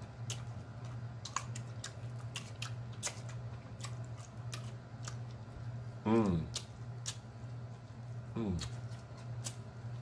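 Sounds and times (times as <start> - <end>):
steady low hum: 0.0 - 10.0
wet chewing and lip-smacking: 0.0 - 10.0.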